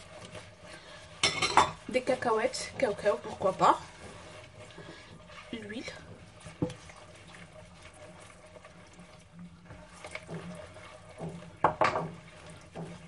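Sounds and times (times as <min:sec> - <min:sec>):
hand squelching wet mix in bowl: 0:00.0 - 0:13.0.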